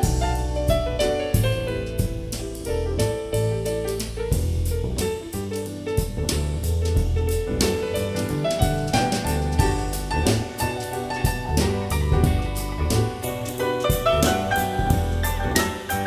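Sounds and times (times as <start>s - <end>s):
drum kit beat: 0.0s - 16.0s
piano: 0.0s - 16.0s
walking bass line: 0.0s - 16.0s.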